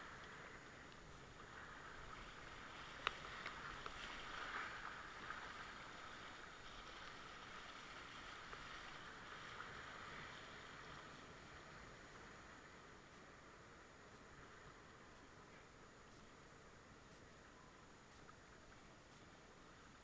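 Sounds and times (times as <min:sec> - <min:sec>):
small ticks: 0:00.0 - 0:09.8, 0:10.9 - 0:20.0.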